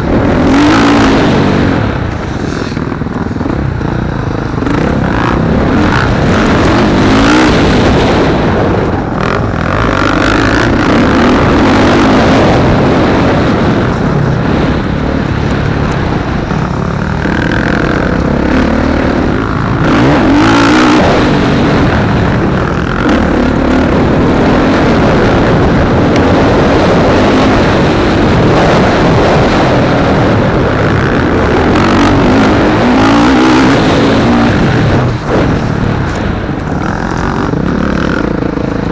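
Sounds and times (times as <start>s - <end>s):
motocross motorcycle engines: 0.0s - 38.9s.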